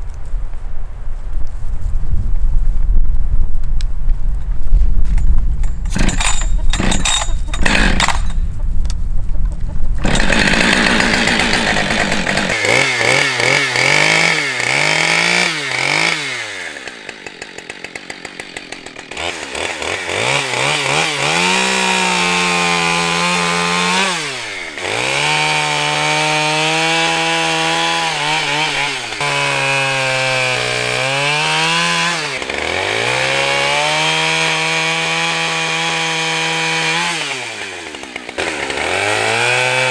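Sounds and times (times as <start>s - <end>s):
chainsaw cutting wood: 5.2s - 8.7s, 10.0s - 39.9s
rasping strokes: 5.6s - 39.9s.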